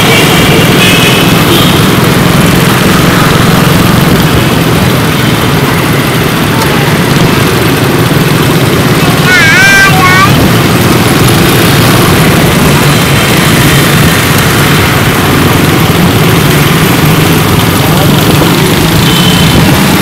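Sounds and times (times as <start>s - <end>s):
motorcycle engine running: 0.0s - 20.0s
scooter traffic: 0.0s - 20.0s
wind noise: 0.0s - 20.0s.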